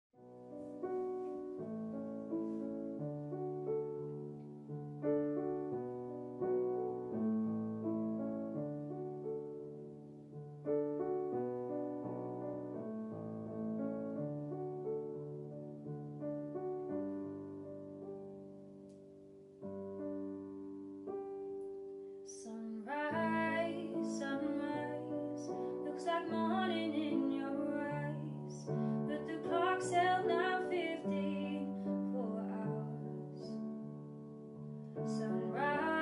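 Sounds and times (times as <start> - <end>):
slow gentle piano chords: 0.2 - 36.0.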